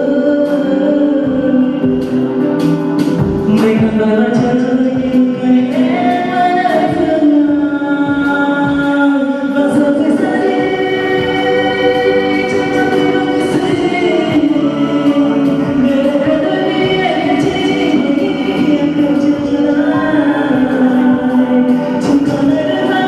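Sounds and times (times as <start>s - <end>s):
pop ballad singing: 0.0s - 23.0s.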